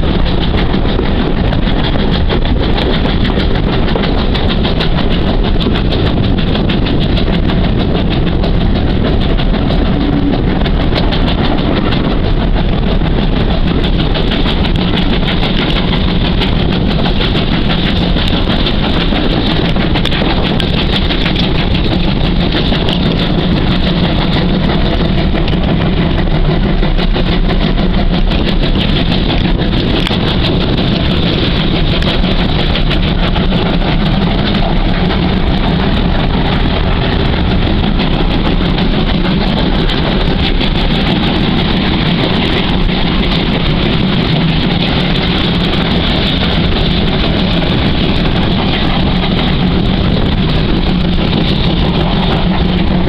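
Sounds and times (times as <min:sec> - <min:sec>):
steam train running on rails: 0:00.0 - 0:53.0.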